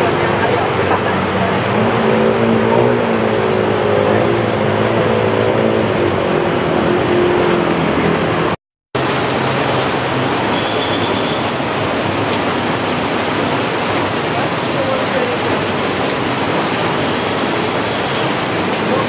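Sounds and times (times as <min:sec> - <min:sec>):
rain: 0:00.0 - 0:19.0
rushing floodwater: 0:00.0 - 0:19.0
vehicle engine humming: 0:00.0 - 0:19.0.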